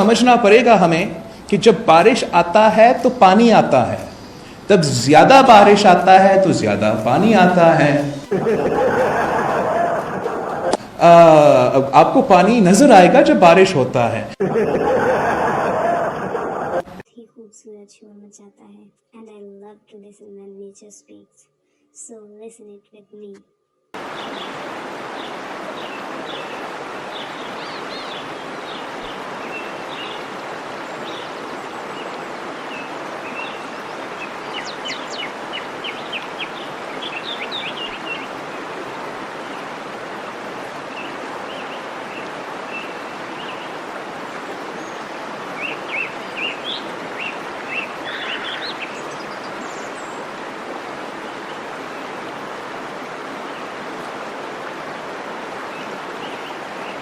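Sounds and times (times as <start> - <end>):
birds chirping: 0.0 - 13.9, 24.0 - 57.0
waterfall rushing: 0.0 - 17.0, 24.0 - 57.0.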